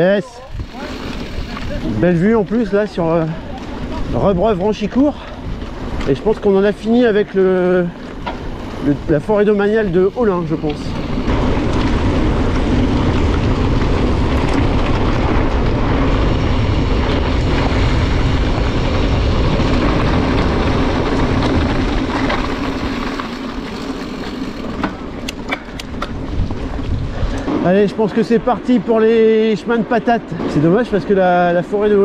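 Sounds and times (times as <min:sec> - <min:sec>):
wind on camera microphone: 0:00.0 - 0:07.8, 0:08.4 - 0:28.5
bike tyres rolling on dirt: 0:00.0 - 0:32.0.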